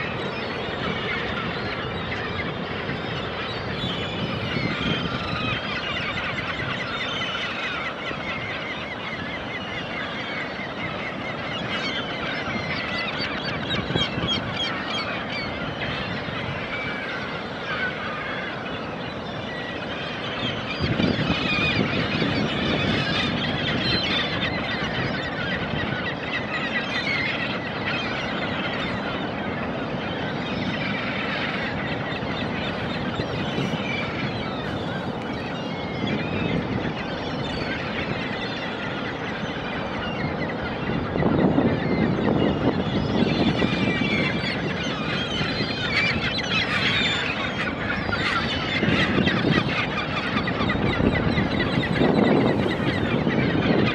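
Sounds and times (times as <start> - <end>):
seabirds calling: 0.0 - 53.9.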